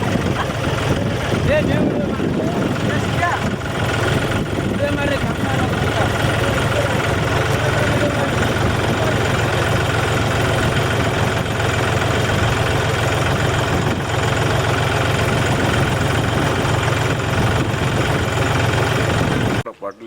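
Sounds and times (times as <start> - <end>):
tractor engine running: 0.0 - 19.6.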